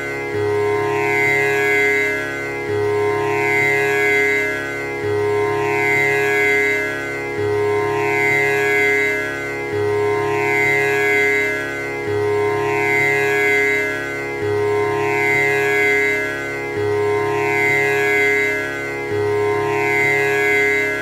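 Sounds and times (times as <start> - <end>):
tanpura drone: 0.0 - 21.0.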